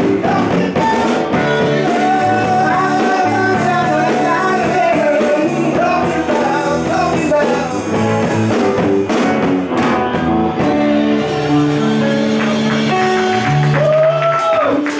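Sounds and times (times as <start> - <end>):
live rock band playing: 0.0 - 14.9.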